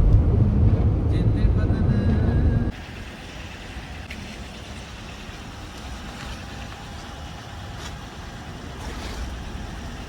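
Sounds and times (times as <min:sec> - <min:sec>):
car cabin rumble and hiss: 0:00.0 - 0:10.0.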